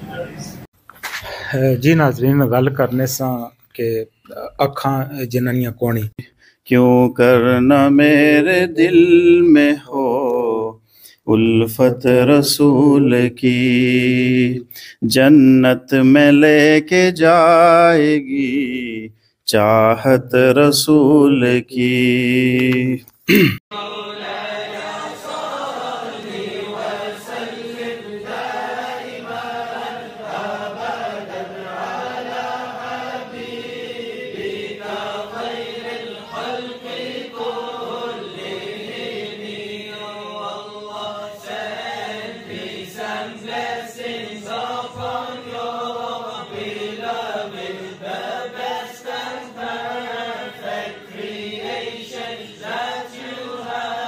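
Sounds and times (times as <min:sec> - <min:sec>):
devotional chant singing: 0:01.6 - 0:54.0.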